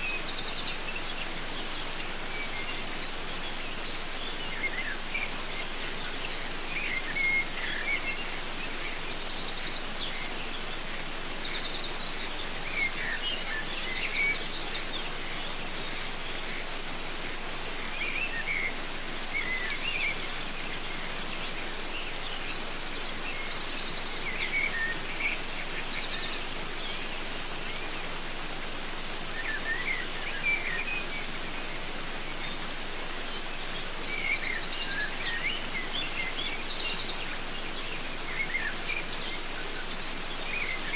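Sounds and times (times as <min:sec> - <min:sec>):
birds chirping and trilling: 0:00.0 - 0:40.9
waterfall rushing: 0:00.0 - 0:40.9.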